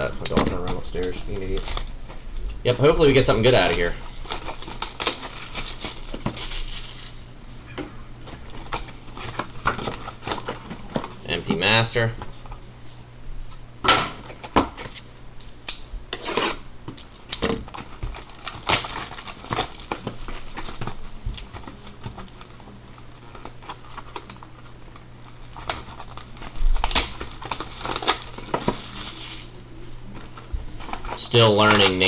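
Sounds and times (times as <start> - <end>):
plastic wrap crinkling: 0.0 - 12.6, 17.0 - 32.0.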